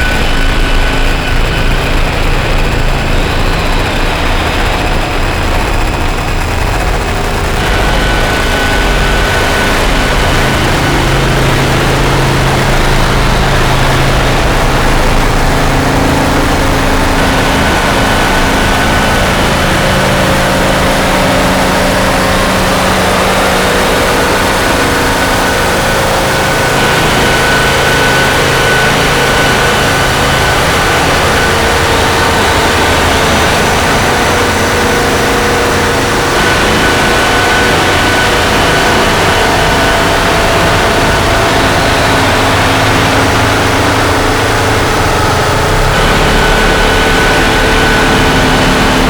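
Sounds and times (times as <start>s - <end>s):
distorted noise drone: 0.0s - 49.0s
low rumble: 0.0s - 49.0s.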